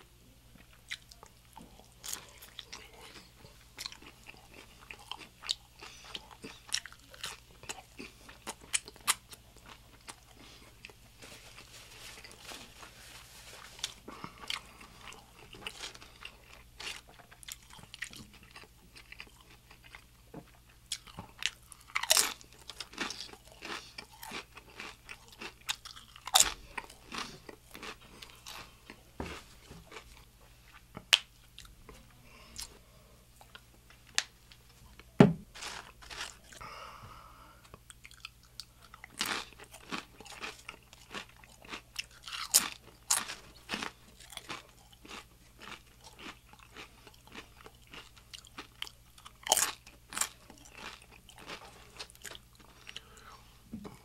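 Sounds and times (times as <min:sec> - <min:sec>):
crunching and chewing chips: 0:00.5 - 0:36.8, 0:37.6 - 0:54.0.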